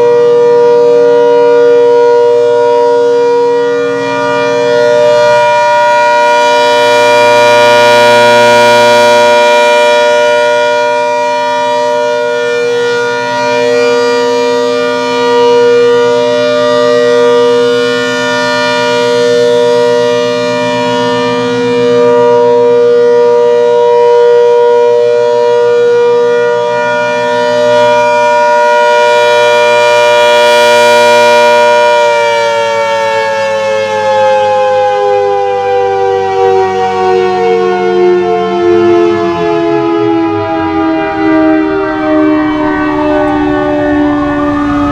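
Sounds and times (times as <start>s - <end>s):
outdoor warning siren: 0.0s - 44.9s.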